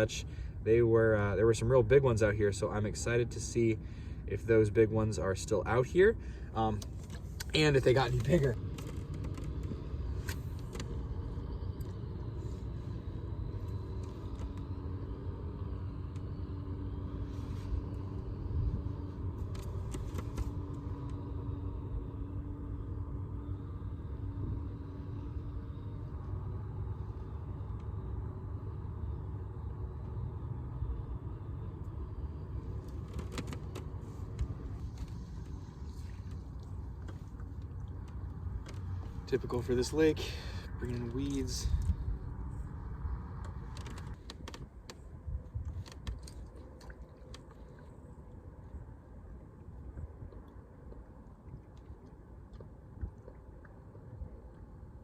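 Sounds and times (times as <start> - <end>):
faint steady hum: 0.0 - 55.0
steady low rumble: 0.0 - 55.0.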